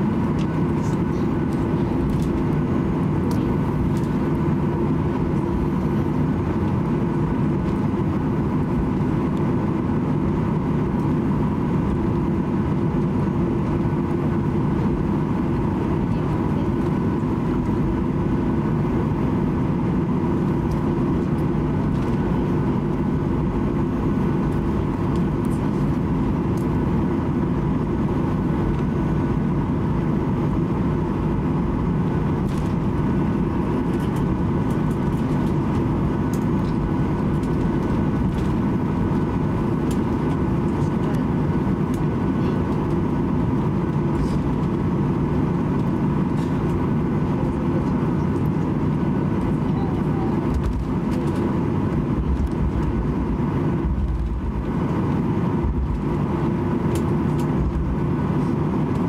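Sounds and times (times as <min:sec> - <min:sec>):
faint steady whine: 0:00.0 - 0:59.0
jet engines idling rumble: 0:00.0 - 0:59.0.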